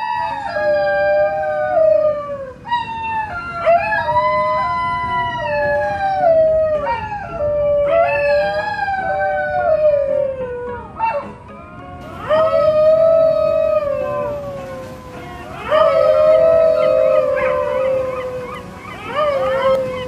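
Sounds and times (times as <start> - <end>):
dingoes howling: 0.0 - 20.0.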